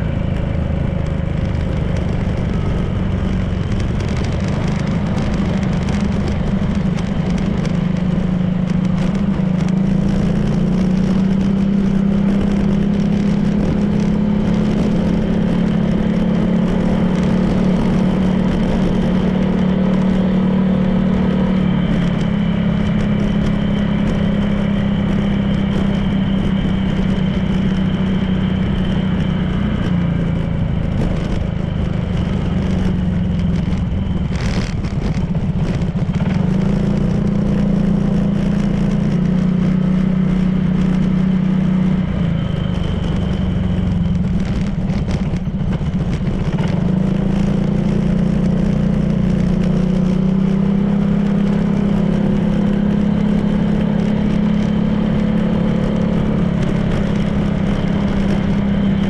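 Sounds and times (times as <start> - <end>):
road and wind noise: 0.0 - 59.0
scooter engine running: 0.0 - 59.0.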